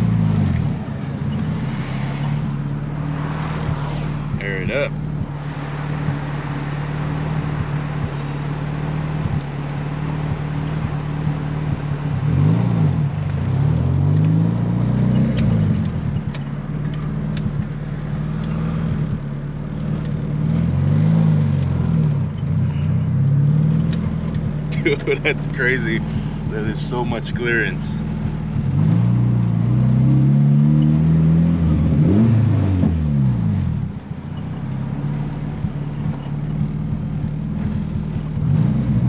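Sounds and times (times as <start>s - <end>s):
car engine humming: 0.0s - 39.0s.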